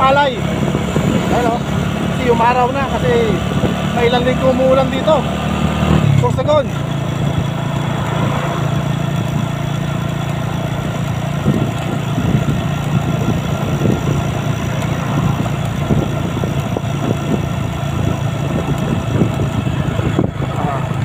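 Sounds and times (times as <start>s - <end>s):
wind buffeting microphone: 0.0s - 4.5s, 5.1s - 21.0s
motorcycle engine cruising: 0.0s - 21.0s.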